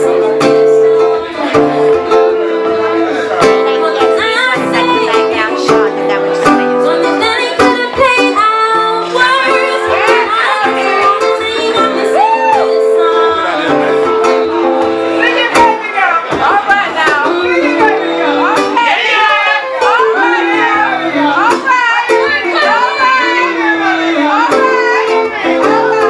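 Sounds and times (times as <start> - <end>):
classical guitar picked notes: 0.0 - 26.0
woman singing: 0.0 - 26.0.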